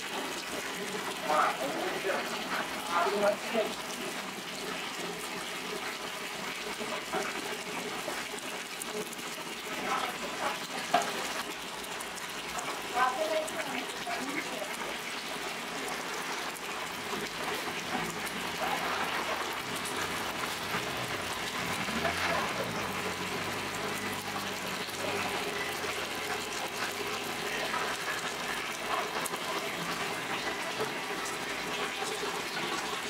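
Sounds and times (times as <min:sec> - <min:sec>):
tap water running into steel bowl: 0:00.0 - 0:33.0.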